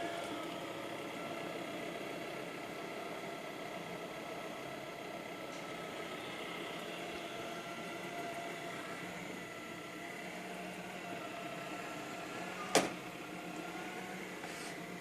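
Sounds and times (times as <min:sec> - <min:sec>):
robot vacuum cleaner whirring: 0:00.0 - 0:15.0.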